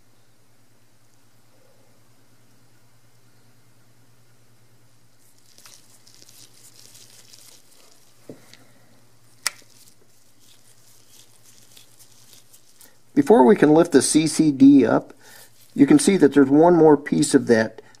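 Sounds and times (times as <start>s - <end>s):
faint steady low hum: 0.0s - 18.0s.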